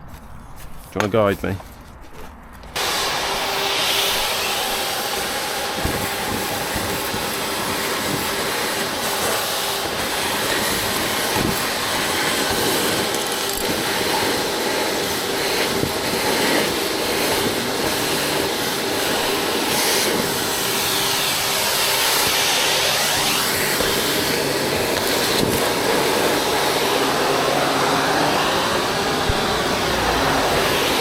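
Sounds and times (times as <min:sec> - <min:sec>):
vacuum motor and suction: 0:02.8 - 0:31.0.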